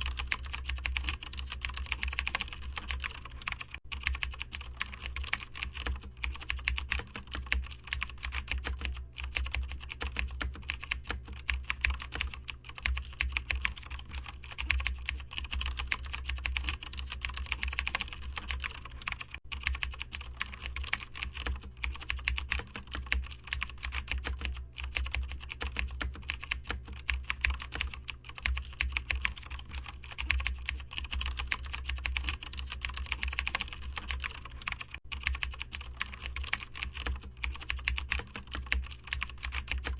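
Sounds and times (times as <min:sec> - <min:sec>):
steady low hum: 0:00.0 - 0:39.9
typing on computer keyboard: 0:00.0 - 0:39.9.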